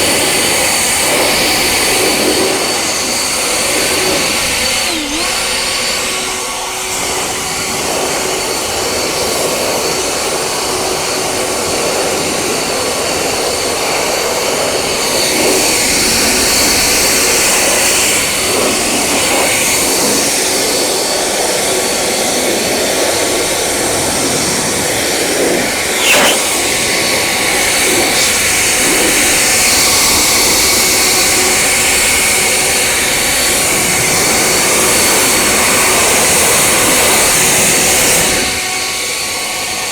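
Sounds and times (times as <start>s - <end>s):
cleaning machine rushing hiss: 0.0s - 39.8s.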